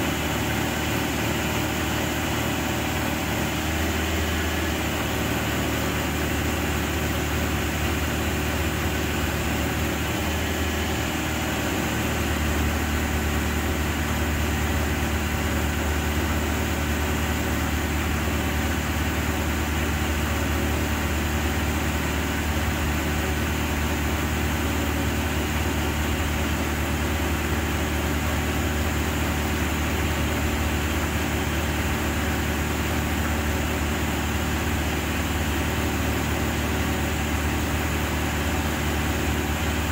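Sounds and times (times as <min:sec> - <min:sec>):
boom lift engine idling: 0:00.0 - 0:39.9.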